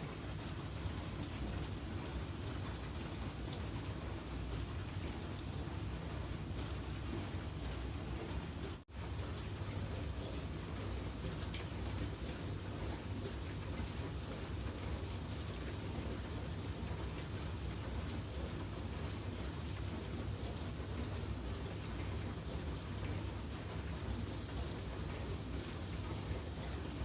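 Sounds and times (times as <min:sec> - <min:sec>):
steady rain-like noise: 0:00.0 - 0:27.0.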